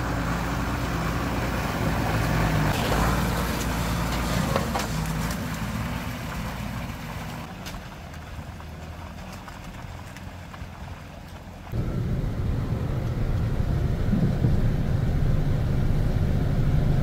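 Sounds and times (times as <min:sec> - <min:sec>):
vehicle engine running at low revs: 0:00.0 - 0:17.0.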